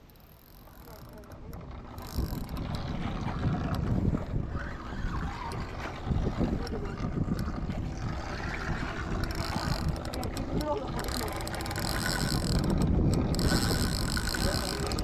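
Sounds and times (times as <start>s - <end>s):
wind buffeting microphone: 0.9s - 15.0s.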